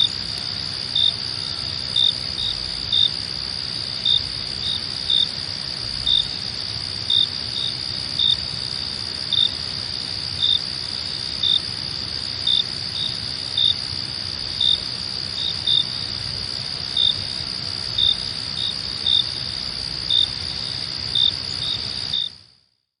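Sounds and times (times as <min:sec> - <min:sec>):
crickets trilling: 0:00.0 - 0:22.5
cricket chirps: 0:00.0 - 0:22.7
faint low hiss: 0:00.0 - 0:22.7.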